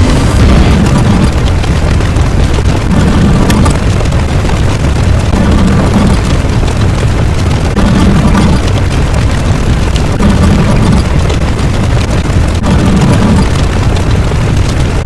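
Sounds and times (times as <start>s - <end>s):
loud low rumble: 0.0s - 14.5s.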